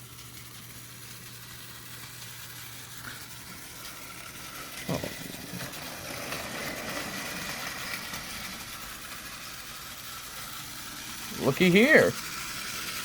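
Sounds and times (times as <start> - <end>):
toy train motors whirring: 0.0 - 13.0.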